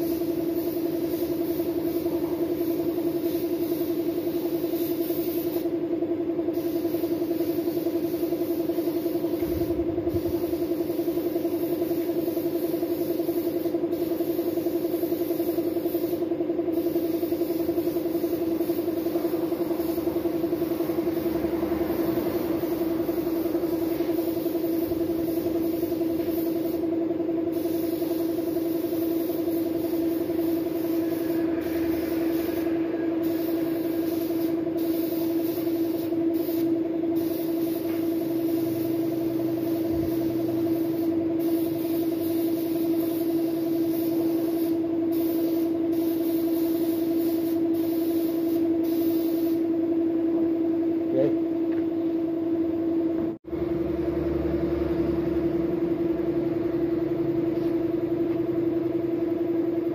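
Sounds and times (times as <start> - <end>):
paint spray gun hissing: 0.0 - 5.8, 6.5 - 49.7
air compressor humming: 0.0 - 59.9.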